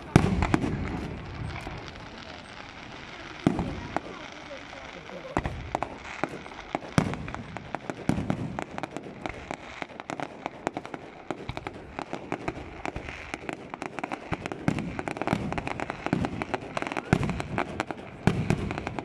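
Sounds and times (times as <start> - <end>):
fireworks booms: 0.0 - 19.0
fireworks popping and crackling: 0.0 - 19.0.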